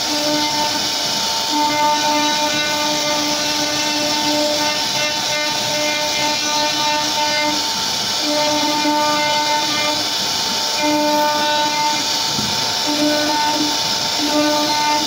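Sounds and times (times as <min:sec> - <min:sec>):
bit cutting wood hiss: 0:00.0 - 0:15.0
router spindle whining: 0:00.0 - 0:15.0.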